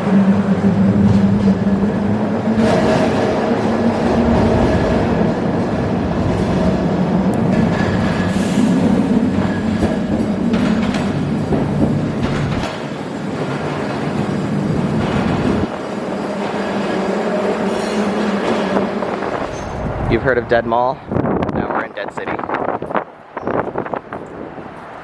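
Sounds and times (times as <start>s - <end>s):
light-rail train running: 0.0s - 25.0s.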